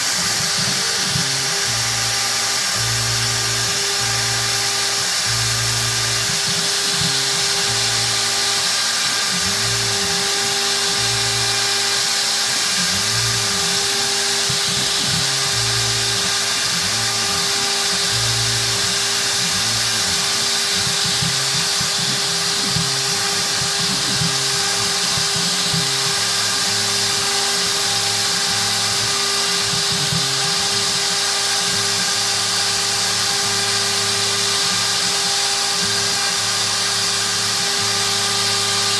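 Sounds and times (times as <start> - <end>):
cutter hiss: 0.0 - 38.9
router spindle whining: 0.0 - 38.9.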